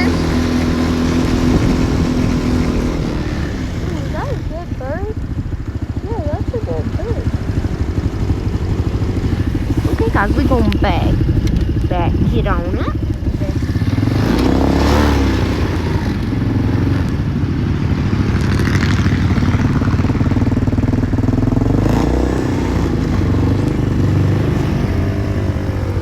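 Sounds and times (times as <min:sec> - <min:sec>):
off-road vehicle engine running: 0:00.0 - 0:26.0
vehicle rattling: 0:00.0 - 0:26.0.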